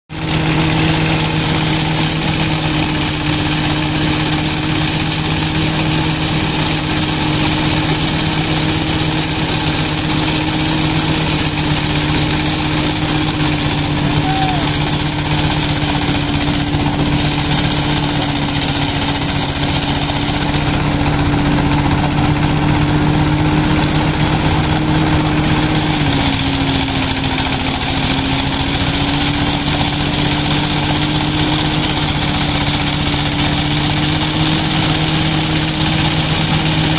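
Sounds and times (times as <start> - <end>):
threshing machine humming: 0.1 - 36.9.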